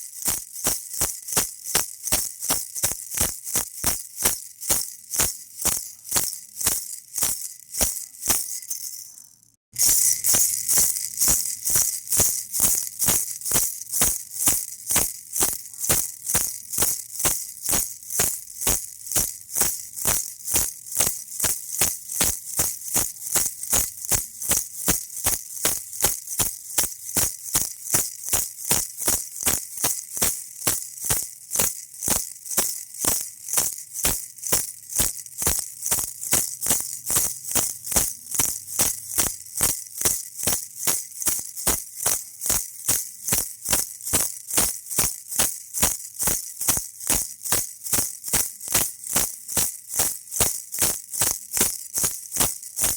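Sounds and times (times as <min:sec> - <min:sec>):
baby rattle shaking: 0:00.0 - 0:52.9.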